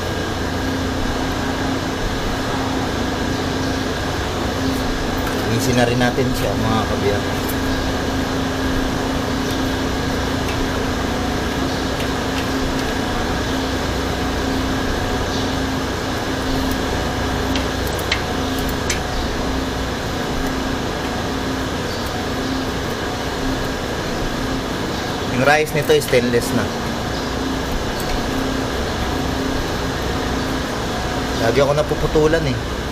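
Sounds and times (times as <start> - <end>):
machine hum with hiss: 0.0 - 32.9.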